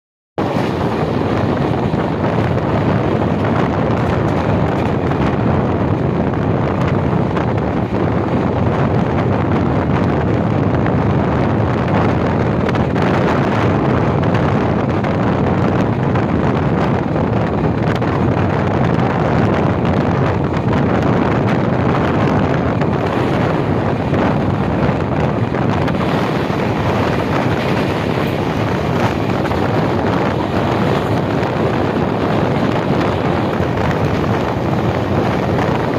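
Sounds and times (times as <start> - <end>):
train rumbling: 0.4 - 35.9
wind noise on microphone: 0.4 - 35.9.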